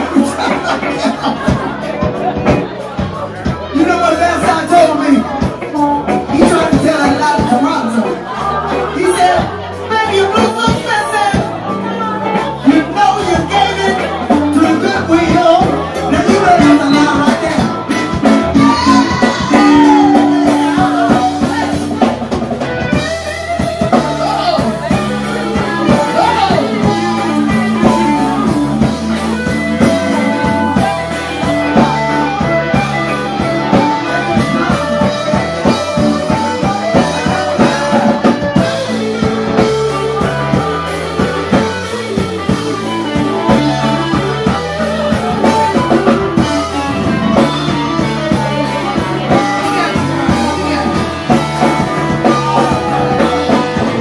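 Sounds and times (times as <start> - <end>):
person singing: 0.0 - 22.3, 22.9 - 54.0
live blues band playing: 0.0 - 54.0.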